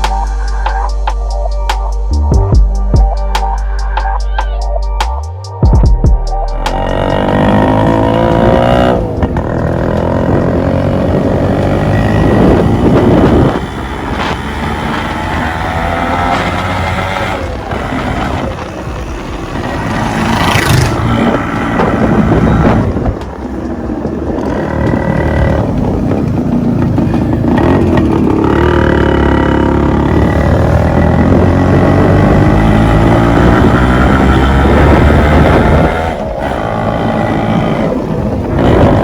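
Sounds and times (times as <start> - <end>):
motorcycle engine revving: 6.5 - 39.0.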